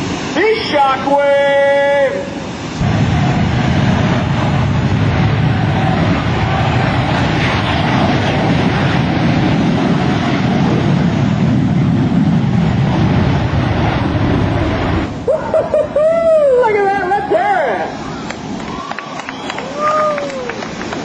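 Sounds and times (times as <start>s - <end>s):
jet engines on afterburner: 0.0s - 21.0s.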